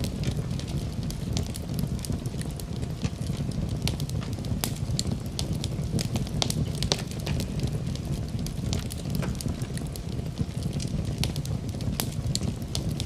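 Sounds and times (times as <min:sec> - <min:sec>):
fire flames rumbling: 0:00.0 - 0:13.0
wood fire crackling and popping: 0:00.0 - 0:13.0.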